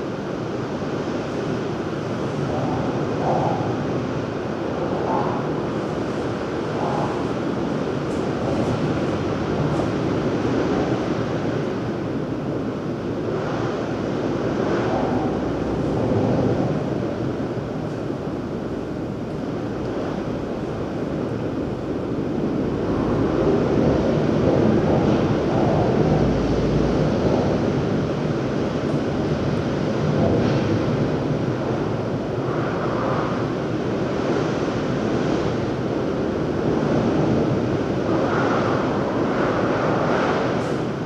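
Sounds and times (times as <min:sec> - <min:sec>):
wind on microphone: 0:00.0 - 0:41.0.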